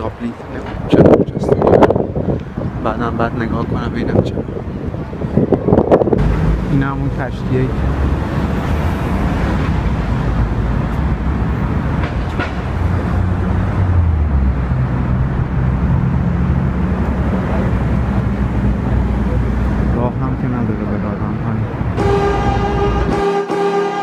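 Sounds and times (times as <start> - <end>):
heavy vehicle engine rumbling: 0.0 - 24.0.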